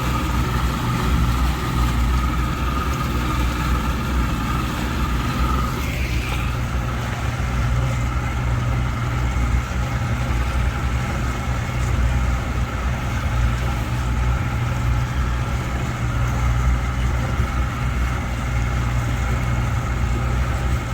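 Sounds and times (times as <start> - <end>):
vehicle engine rumbling: 0.0 - 20.9.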